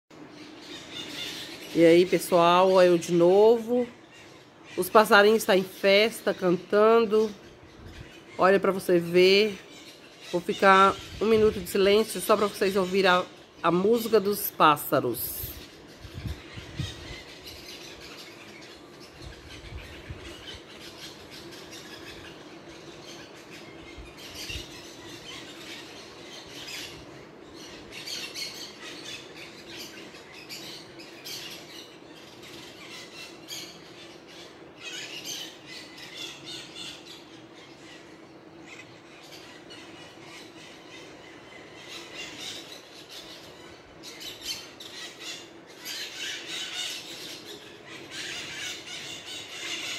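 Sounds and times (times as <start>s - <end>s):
birds chirping and squawking: 0.1s - 49.9s
faint steady hum: 0.1s - 49.9s.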